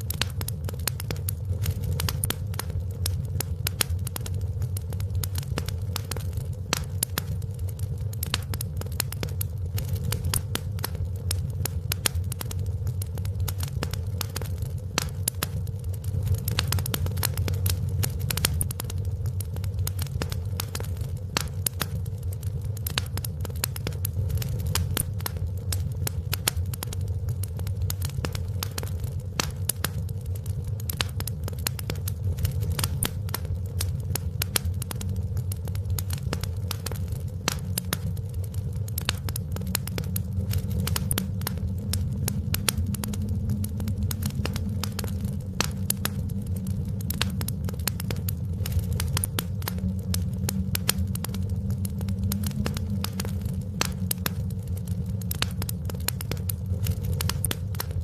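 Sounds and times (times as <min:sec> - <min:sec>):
fire crackling and popping: 0:00.0 - 0:58.0
wood fire rumbling: 0:00.0 - 0:58.0.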